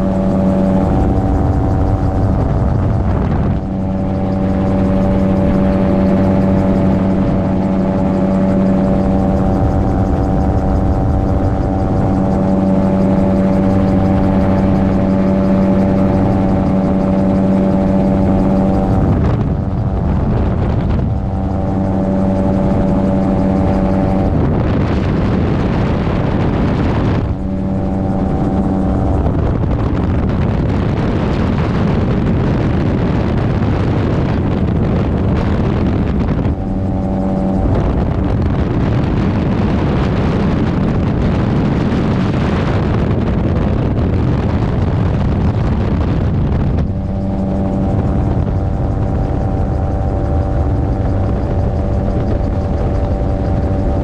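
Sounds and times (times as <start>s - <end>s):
aircraft engine running: 0.0s - 54.0s
wind rush: 0.0s - 54.0s.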